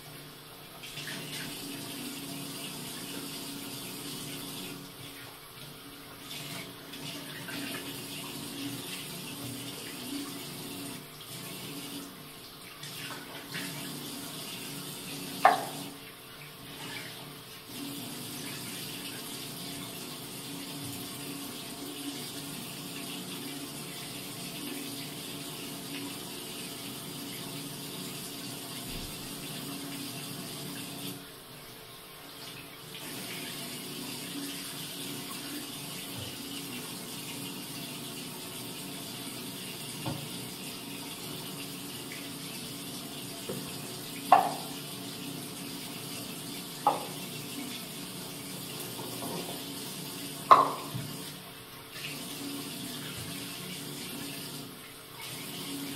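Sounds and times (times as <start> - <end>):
tap water running into basin: 0.0 - 55.9.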